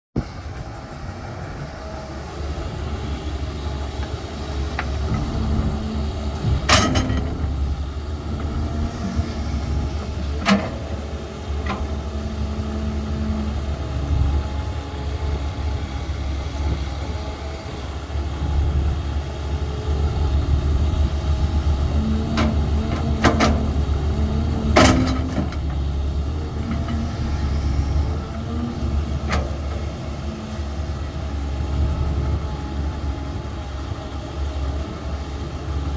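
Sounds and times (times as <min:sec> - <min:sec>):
construction machine engine rumbling: 0:00.2 - 0:35.9.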